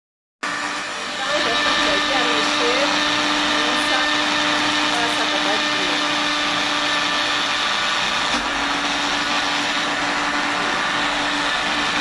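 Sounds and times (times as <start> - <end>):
blender motor grinding: 0.4 - 12.0.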